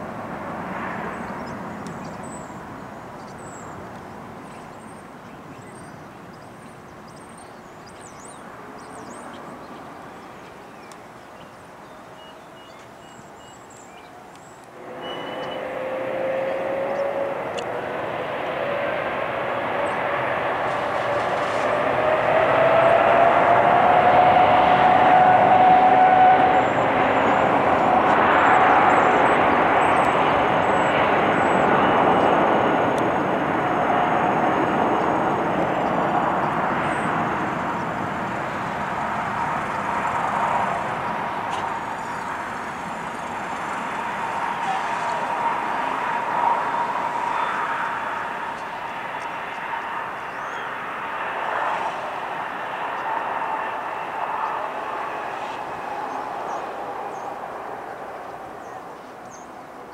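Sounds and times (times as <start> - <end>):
jet engines at takeoff power: 0.0 - 11.6, 12.7 - 59.9.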